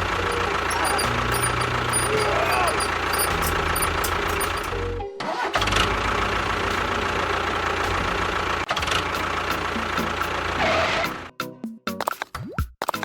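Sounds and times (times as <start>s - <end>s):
engine chugging: 0.0s - 11.3s.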